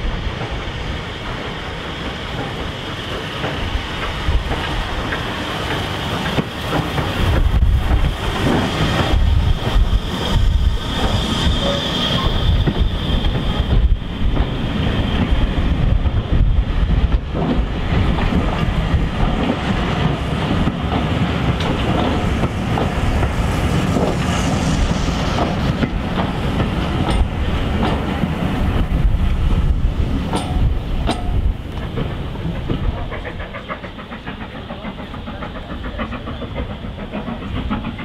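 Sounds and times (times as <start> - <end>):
train coaches rumbling past: 0.0 - 38.0
wheels clicking over rail joints: 1.3 - 14.6, 15.2 - 24.2, 25.4 - 38.0.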